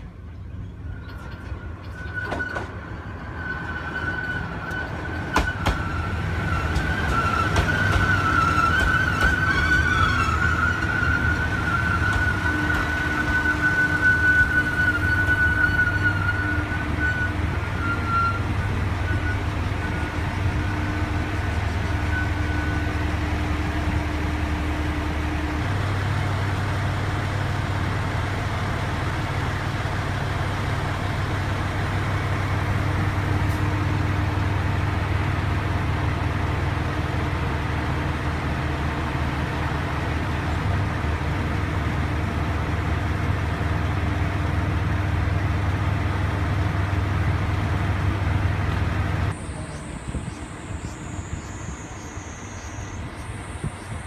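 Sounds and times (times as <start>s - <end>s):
diesel railcar engines droning: 0.0s - 54.0s.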